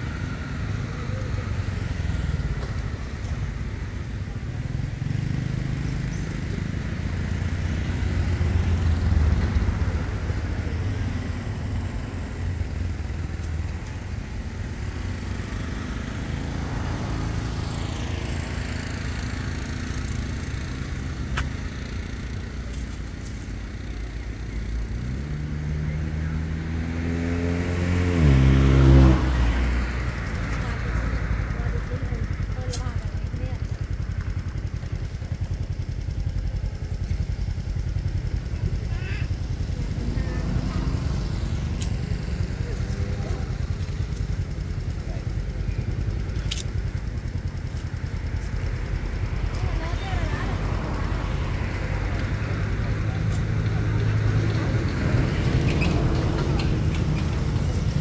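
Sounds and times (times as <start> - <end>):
passing vehicle engines rumbling: 0.0 - 58.0.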